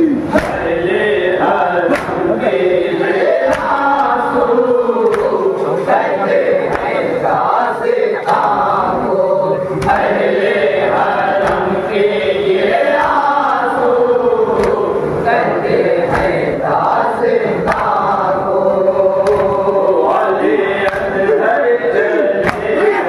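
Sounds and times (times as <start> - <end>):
man reciting lament: 0.0 - 14.1, 17.9 - 23.0
crowd of men chanting: 0.0 - 23.0.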